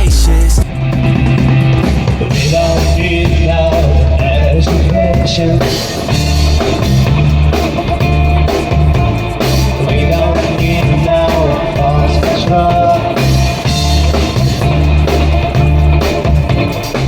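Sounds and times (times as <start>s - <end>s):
rap instrumental with heavy bass beat: 0.0s - 17.0s.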